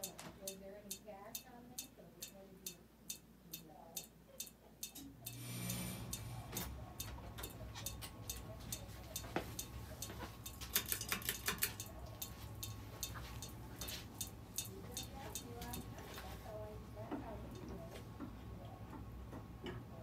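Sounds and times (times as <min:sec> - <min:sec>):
ceiling fan ticking: 0:00.0 - 0:20.0
fan motor hum: 0:00.0 - 0:20.0.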